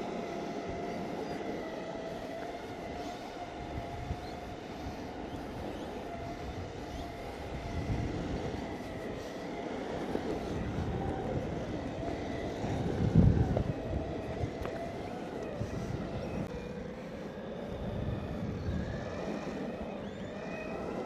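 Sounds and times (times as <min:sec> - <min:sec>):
electric motor whine: 0:00.0 - 0:21.0
skateboard wheels rumbling on asphalt: 0:00.0 - 0:21.0.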